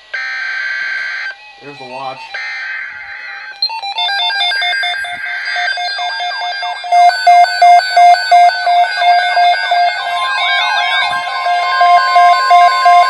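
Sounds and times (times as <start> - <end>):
loud steady alarm beep: 0.0 - 13.0
electronic alarm beeps and chirps: 0.1 - 13.0.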